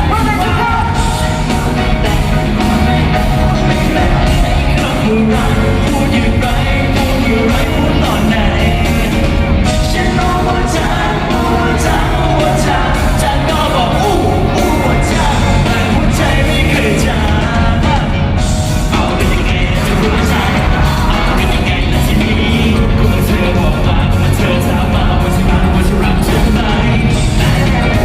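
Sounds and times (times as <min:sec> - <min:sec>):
live rock band playing: 0:00.0 - 0:28.0
person singing: 0:00.0 - 0:28.0.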